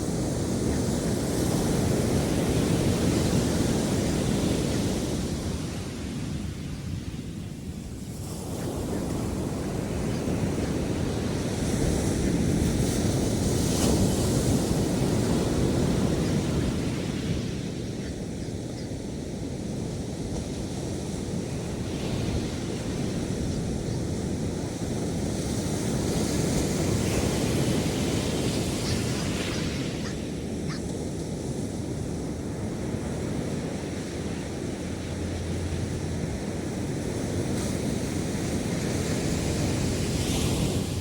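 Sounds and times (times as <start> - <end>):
ocean surf breaking on beach: 0.0 - 41.0
wind on microphone: 0.0 - 41.0.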